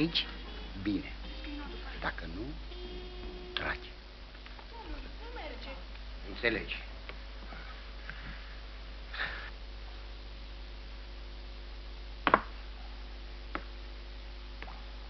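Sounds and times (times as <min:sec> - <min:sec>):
film soundtrack hiss and hum: 0:00.0 - 0:15.0.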